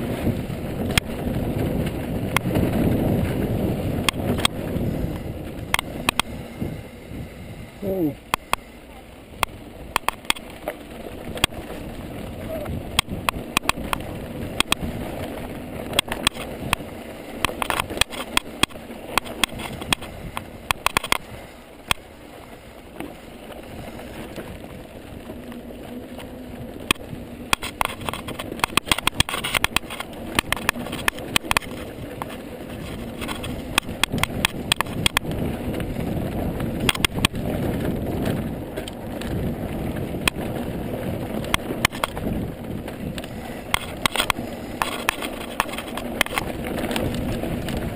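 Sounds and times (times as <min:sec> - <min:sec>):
sharp clicks and rattles: 0:00.0 - 0:07.2, 0:08.1 - 0:47.9
bike tyres rumbling on dirt: 0:00.0 - 0:47.9
wind on microphone: 0:00.0 - 0:47.9.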